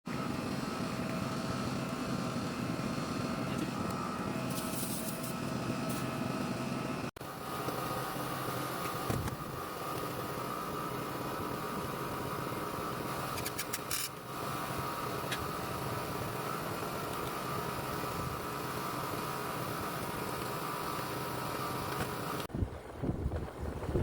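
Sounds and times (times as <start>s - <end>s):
fan and motor hum with whine: 0.1s - 24.0s.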